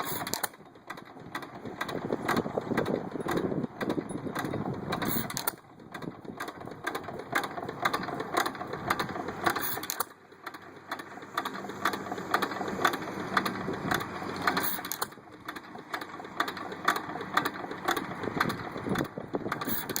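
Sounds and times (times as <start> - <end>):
hit-and-miss engine clicking: 0.0 - 20.0.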